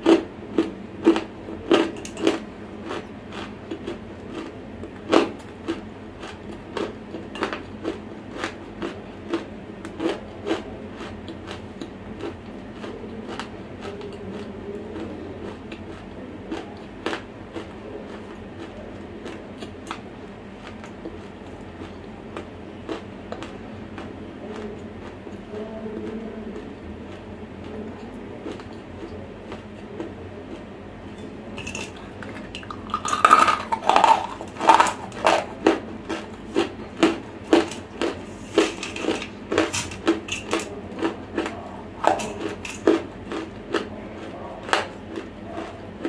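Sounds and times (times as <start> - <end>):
clay crunching being chewed: 0.0 - 25.4, 26.0 - 46.0.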